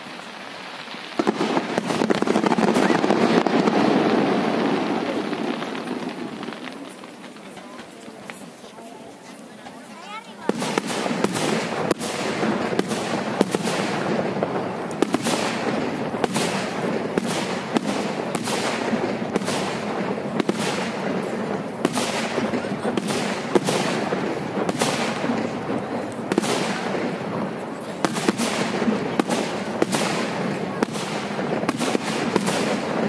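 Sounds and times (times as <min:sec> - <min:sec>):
fireworks crackling: 0:00.0 - 0:33.0.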